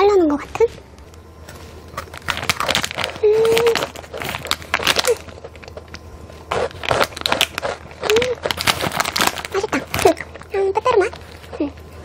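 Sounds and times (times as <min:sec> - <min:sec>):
crunchy biscuit chewing: 0:01.9 - 0:11.9.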